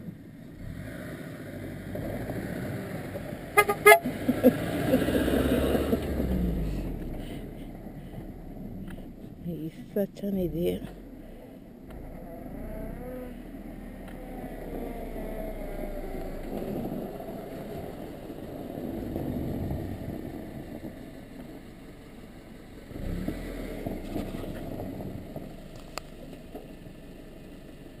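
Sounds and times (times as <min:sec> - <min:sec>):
car engine revving: 0:00.0 - 0:09.4, 0:10.4 - 0:28.0
road and wind noise: 0:00.0 - 0:28.0.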